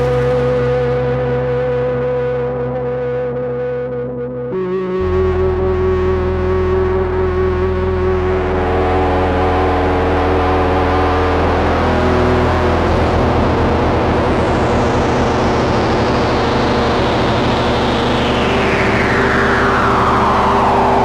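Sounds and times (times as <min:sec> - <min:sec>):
distorted synthesizer chord: 0:00.0 - 0:21.0.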